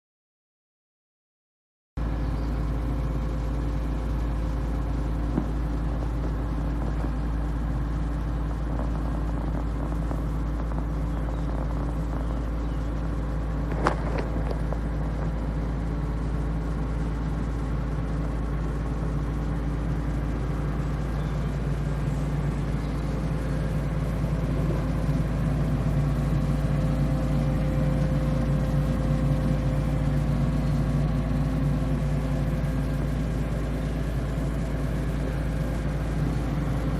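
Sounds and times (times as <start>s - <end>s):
diesel engine idling: 2.0s - 36.9s.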